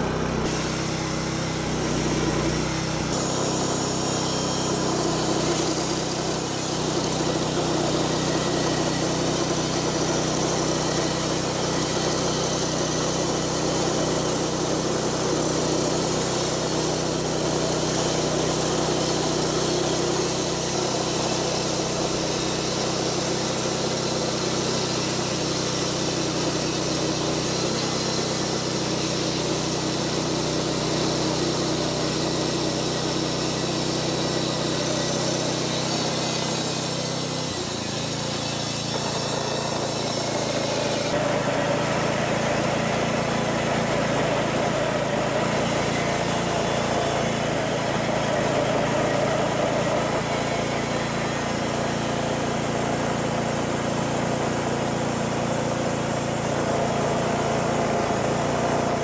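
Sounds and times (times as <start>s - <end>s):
band saw cutting a log: 0.0s - 59.0s
gas engine running: 0.0s - 59.0s.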